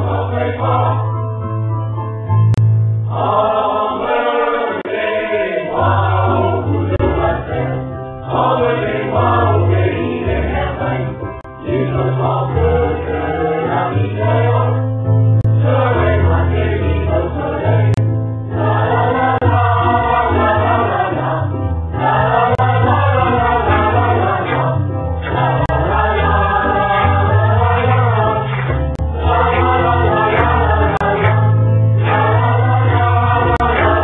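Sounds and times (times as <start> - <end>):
choir singing: 0.0 - 1.3, 3.1 - 34.0.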